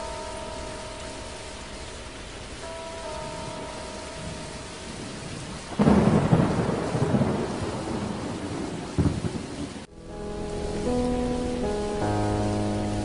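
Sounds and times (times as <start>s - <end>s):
steady rain: 0.0s - 13.0s
thunder clap rumbling: 2.2s - 12.9s.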